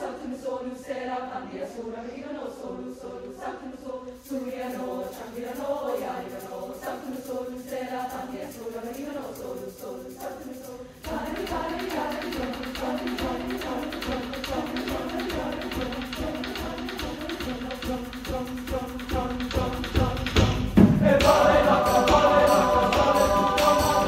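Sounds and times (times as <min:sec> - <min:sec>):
choir singing in parts: 0:00.0 - 0:24.0
drums and percussion: 0:04.2 - 0:24.0.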